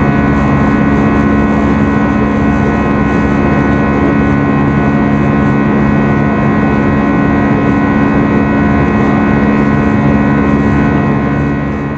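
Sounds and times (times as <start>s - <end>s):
jet engine drone in cabin: 0.0s - 11.9s
rush of air noise: 0.0s - 11.9s.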